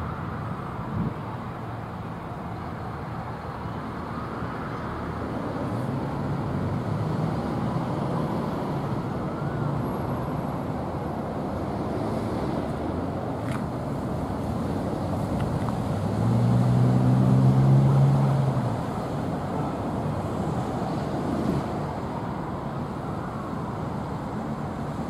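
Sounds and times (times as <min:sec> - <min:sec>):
vehicle rumble: 0:00.0 - 0:25.0.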